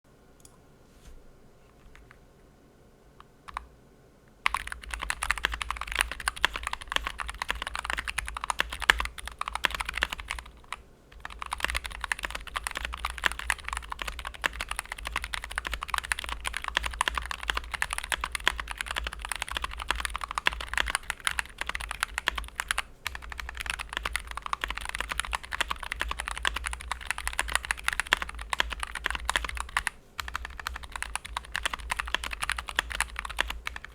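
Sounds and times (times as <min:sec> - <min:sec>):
mechanical keyboard typing: 0:03.5 - 0:03.7, 0:04.4 - 0:33.9.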